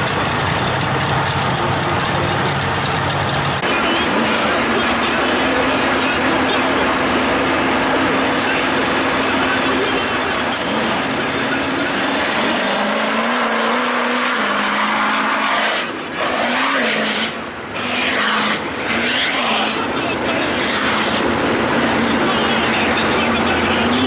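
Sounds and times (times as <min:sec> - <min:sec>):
truck engine at full throttle: 0:00.0 - 0:24.0.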